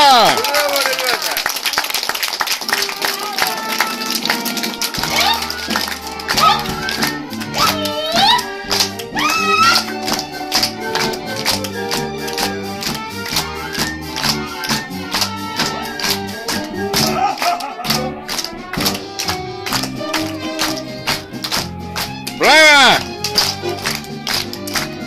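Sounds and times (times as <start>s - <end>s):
lively instrumental music: 2.4s - 25.0s
fast percussive beat: 3.4s - 25.0s.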